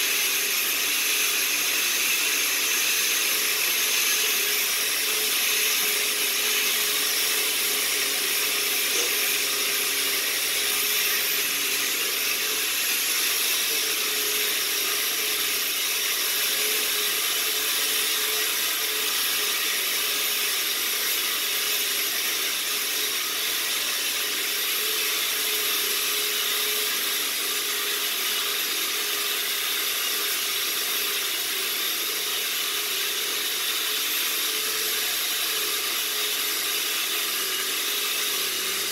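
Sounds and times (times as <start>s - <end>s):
wire brush sander scouring wood: 0.0s - 38.9s.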